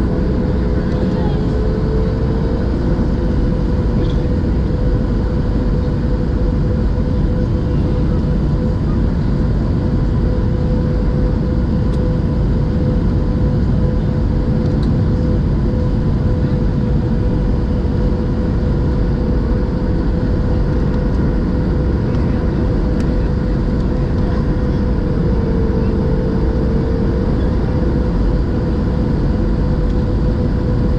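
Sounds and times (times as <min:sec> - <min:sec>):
engine rumble and rushing air: 0:00.0 - 0:30.9
steady hum: 0:00.0 - 0:30.9.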